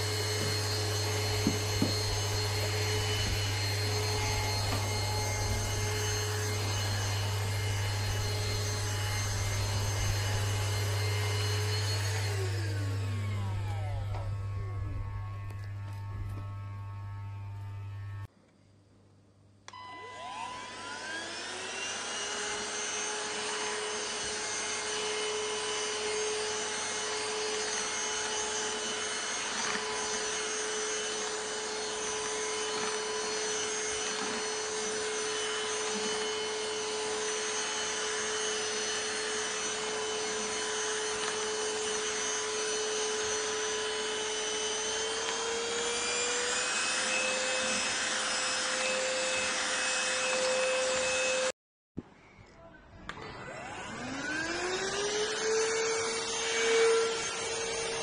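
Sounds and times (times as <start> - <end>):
vacuum cleaner motor whine: 0.0 - 18.3, 19.7 - 51.5, 53.1 - 58.0.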